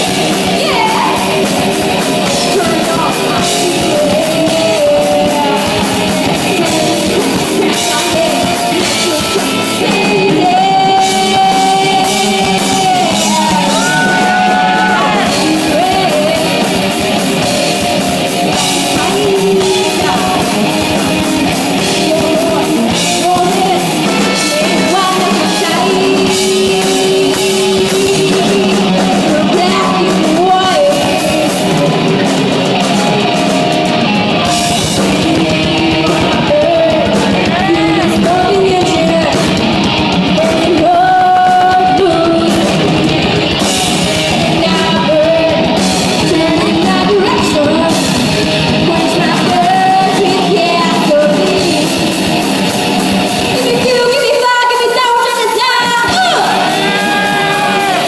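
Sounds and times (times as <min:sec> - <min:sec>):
girl singing lead vocal: 0:00.0 - 0:32.9, 0:34.1 - 0:52.8, 0:53.4 - 0:58.0
live rock band playing: 0:00.0 - 0:58.0.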